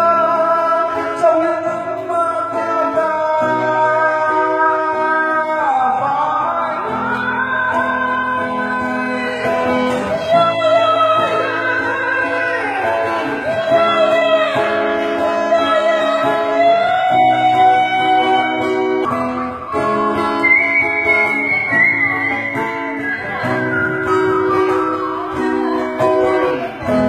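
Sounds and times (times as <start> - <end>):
guitar plucked chords and melody: 0.0 - 27.0.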